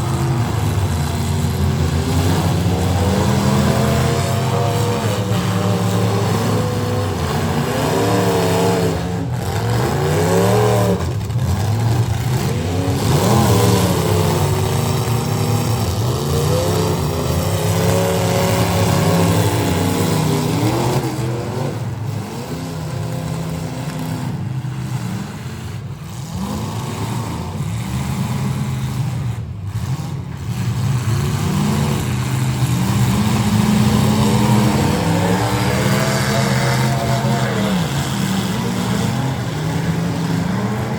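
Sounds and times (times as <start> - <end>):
car engines revving: 0.0 - 40.9.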